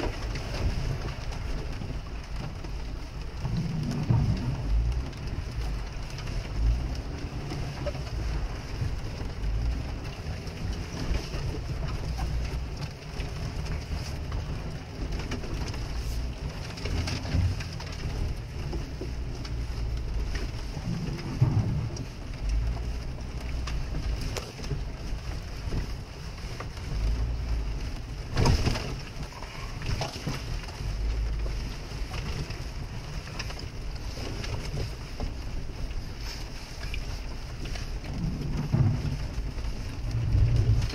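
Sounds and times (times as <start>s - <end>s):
engine and drivetrain rumble: 0.0s - 40.9s
rain hissing on car body: 0.0s - 40.9s
vehicle knocking over ruts: 0.0s - 40.9s.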